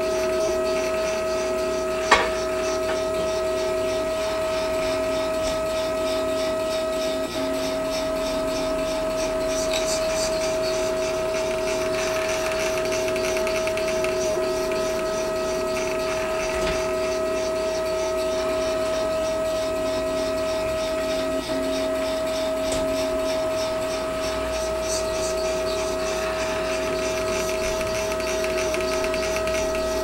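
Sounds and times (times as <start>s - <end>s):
stepper motors whining: 0.0s - 30.0s.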